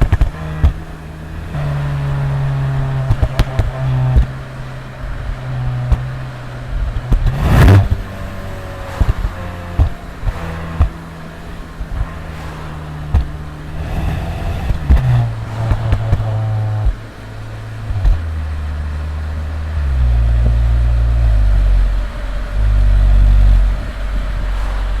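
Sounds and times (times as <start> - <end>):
car engine revving: 0.0 - 25.0
exhaust pops and crackles: 0.0 - 25.0.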